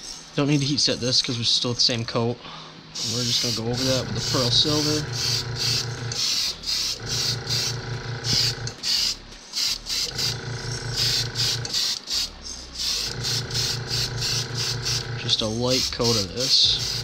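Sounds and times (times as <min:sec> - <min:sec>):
airbrush spraying hiss: 0:03.0 - 0:17.0
small compressor pulsing: 0:03.0 - 0:17.0.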